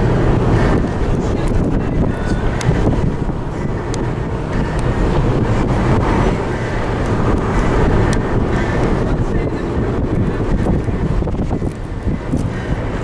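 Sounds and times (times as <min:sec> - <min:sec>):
car road noise: 0:00.0 - 0:13.0
wind buffeting microphone: 0:00.0 - 0:13.0.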